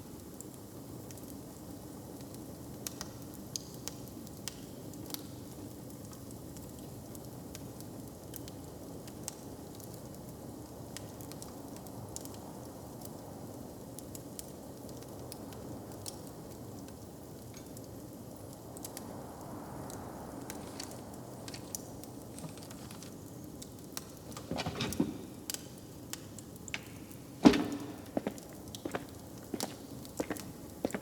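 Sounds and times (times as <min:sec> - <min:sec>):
open fire crackling: 0:00.0 - 0:31.0.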